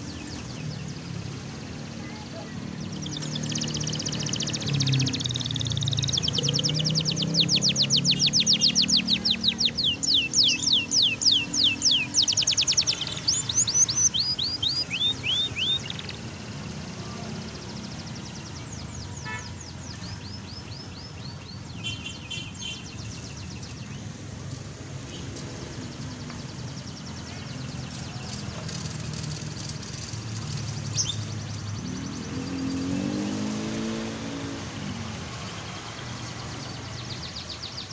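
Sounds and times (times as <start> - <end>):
vehicle approaching: 0.0 - 19.9, 23.1 - 37.9
low rumble of traffic: 0.0 - 37.9
canary singing trills: 2.7 - 37.9.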